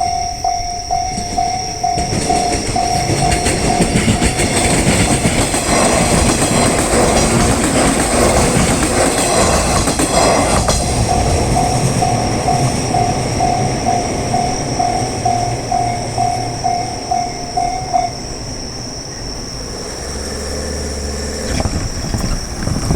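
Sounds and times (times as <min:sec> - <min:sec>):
crossing warning bell ringing: 0:00.0 - 0:19.9
train wheels clattering on rails: 0:00.0 - 0:22.9.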